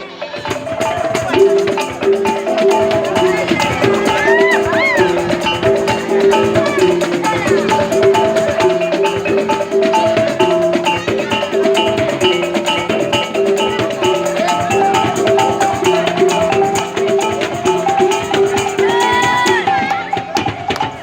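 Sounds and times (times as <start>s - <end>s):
struck pitched notes melody: 0.0s - 20.7s
gliding vocal sound: 0.2s - 19.8s
quick percussion strokes: 0.2s - 21.0s.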